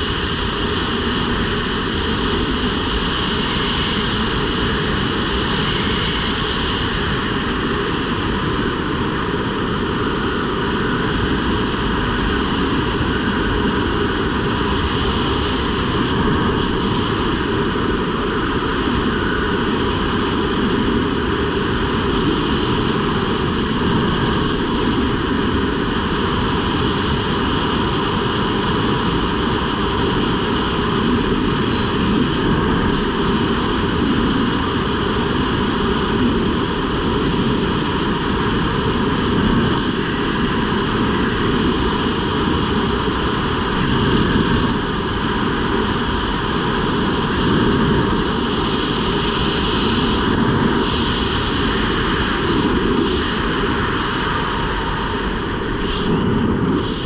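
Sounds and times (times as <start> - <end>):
wind rushing over helmet: 0.0 - 57.0.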